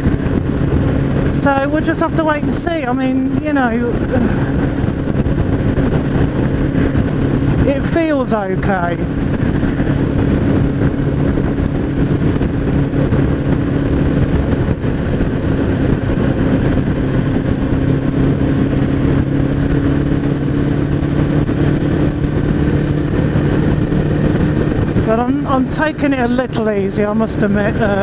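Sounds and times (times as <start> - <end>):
motorcycle engine cruising: 0.0 - 28.0
wind rush on microphone: 0.0 - 28.0.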